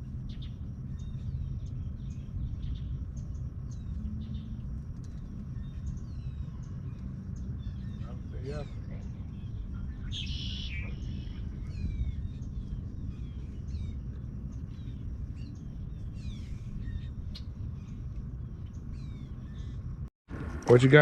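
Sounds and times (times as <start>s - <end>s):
birds chirping: 0.0s - 20.1s
low rumble: 0.0s - 21.0s.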